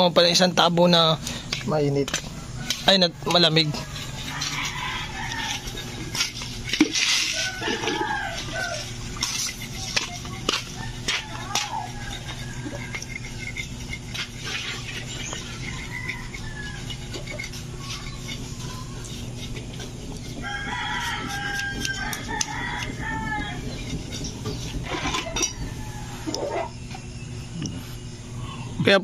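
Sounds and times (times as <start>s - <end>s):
scraping and rubbing on skin: 1.3s - 27.0s
rooster crowing: 2.2s - 27.2s.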